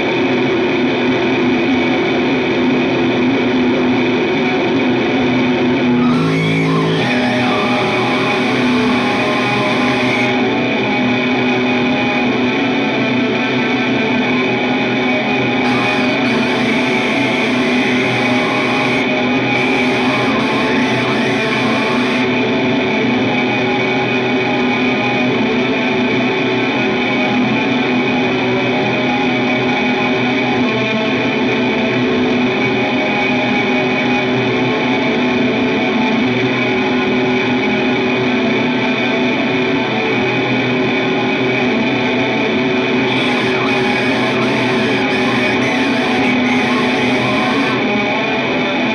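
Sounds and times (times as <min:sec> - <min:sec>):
distorted guitar drone with echo: 0:00.0 - 0:48.9.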